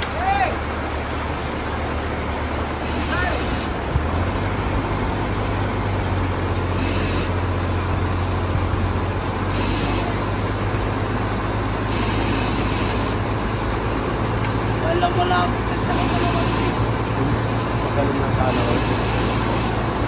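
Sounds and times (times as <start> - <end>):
engine idling: 0.0 - 20.0
river water rushing: 0.0 - 20.0.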